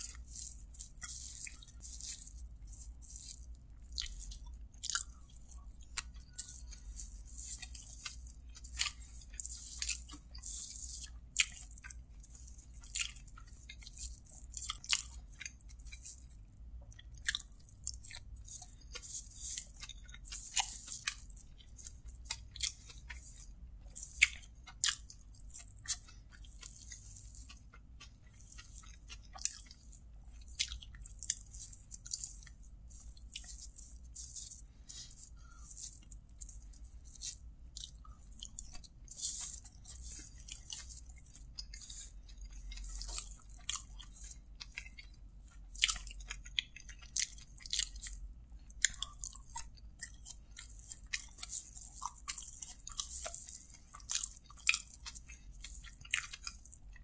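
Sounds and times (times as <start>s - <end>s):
chewing: 0.0s - 57.0s.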